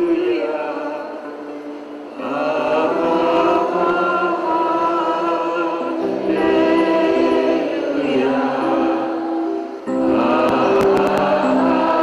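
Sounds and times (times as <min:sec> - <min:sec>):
slow worship singing: 0:00.0 - 0:12.0.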